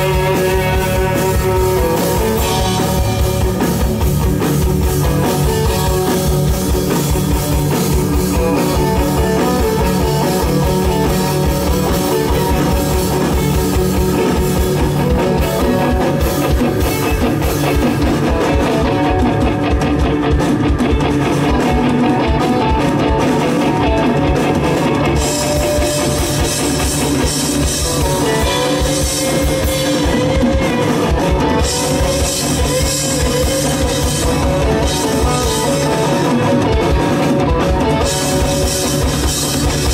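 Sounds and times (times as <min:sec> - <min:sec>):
bass guitar: 0:00.0 - 0:39.9
distorted electric guitars: 0:00.0 - 0:39.9
drum kit: 0:00.0 - 0:39.9.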